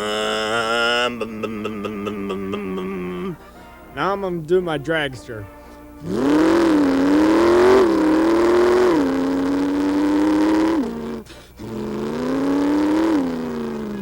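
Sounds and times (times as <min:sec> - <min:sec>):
man imitating engine with voice: 0:00.0 - 0:03.4, 0:04.0 - 0:14.0.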